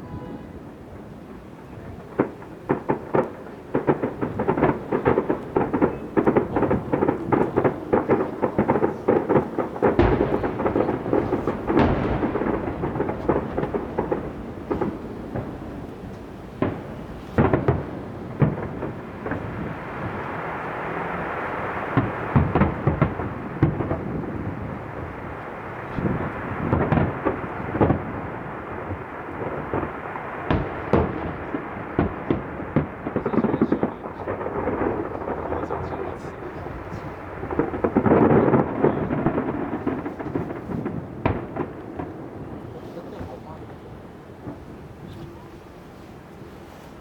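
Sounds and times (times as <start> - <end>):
fireworks booming and banging: 0.0 - 47.0.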